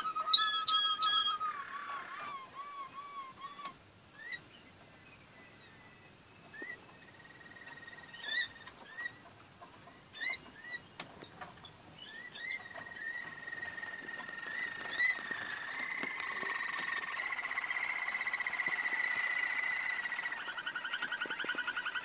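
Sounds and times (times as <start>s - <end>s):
canaries singing: 0.0s - 22.0s.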